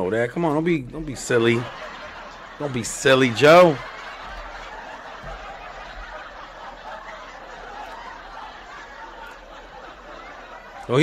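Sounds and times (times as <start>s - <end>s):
low murmuring: 1.0s - 11.0s
muffled laughter: 1.0s - 11.0s.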